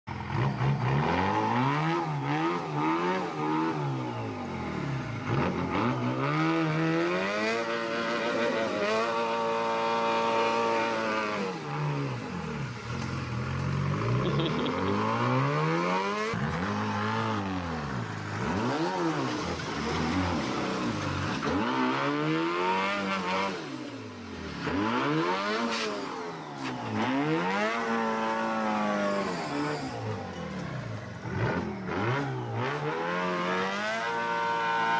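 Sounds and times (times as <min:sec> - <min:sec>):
diesel truck engine revving: 0:00.1 - 0:34.9.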